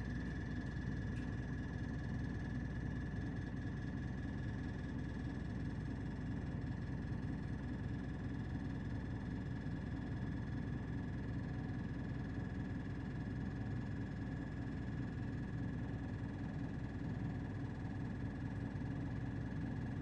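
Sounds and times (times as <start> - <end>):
thin steady whine: 0.0 - 20.0.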